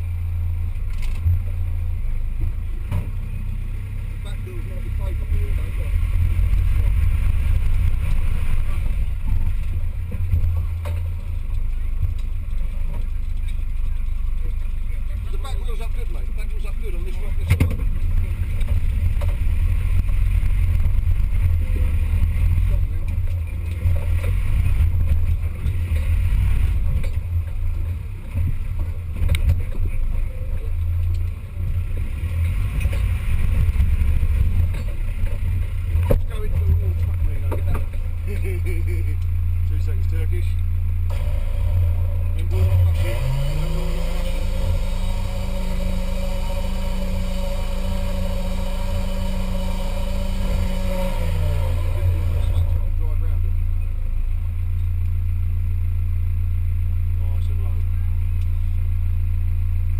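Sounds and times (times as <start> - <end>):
vehicle engine low drone: 0.0 - 59.9.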